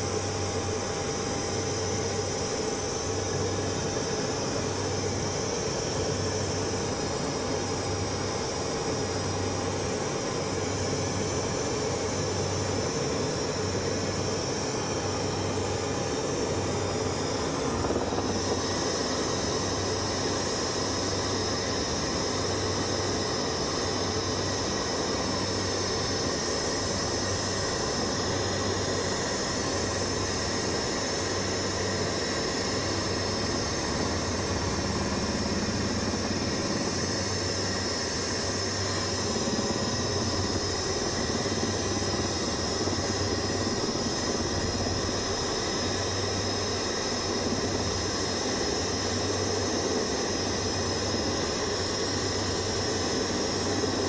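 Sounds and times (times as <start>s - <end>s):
helicopter engine whine: 0.0s - 54.0s
rotor drone: 0.0s - 54.0s.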